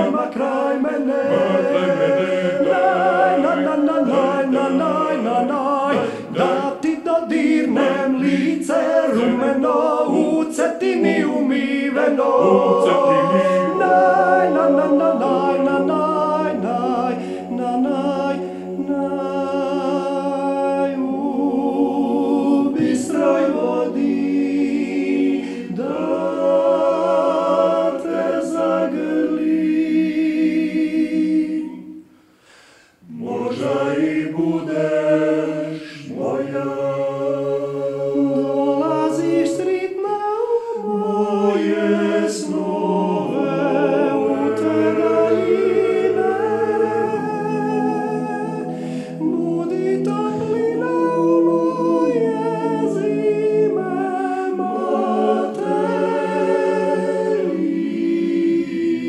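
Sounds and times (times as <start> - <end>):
male vocal group singing in harmony: 0.0 - 59.0.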